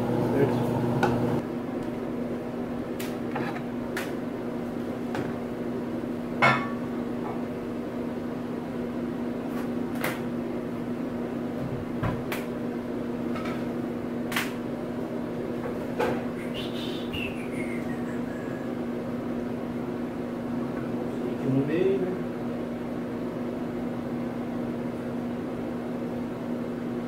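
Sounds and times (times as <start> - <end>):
steady appliance hum: 0.0 - 27.0.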